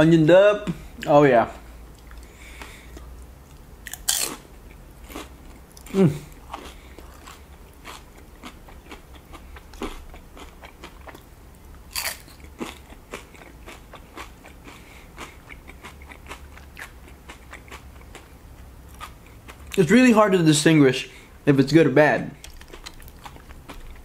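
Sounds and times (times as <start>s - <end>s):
chewing crunchy chips: 2.0s - 19.8s, 22.4s - 24.0s.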